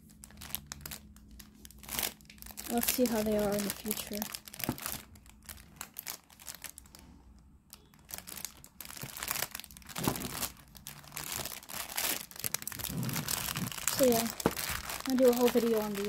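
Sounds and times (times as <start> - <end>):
plastic wrappers crinkling: 0.0 - 7.1, 7.7 - 16.0.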